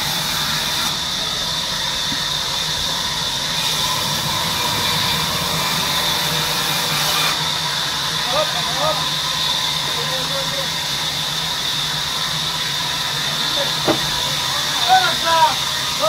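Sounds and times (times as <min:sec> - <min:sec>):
sawmill machinery hum and whine: 0:00.0 - 0:16.0.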